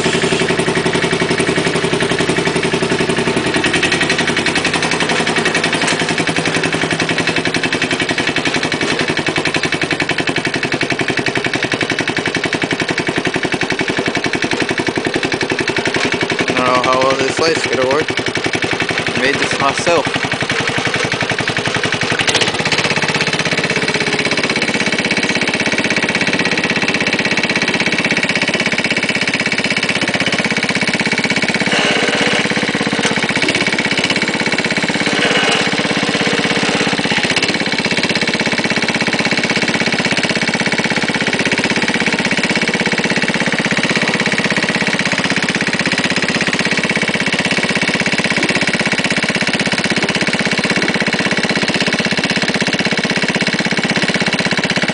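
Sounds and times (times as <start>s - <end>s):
garden tractor engine running: 0.0s - 54.9s.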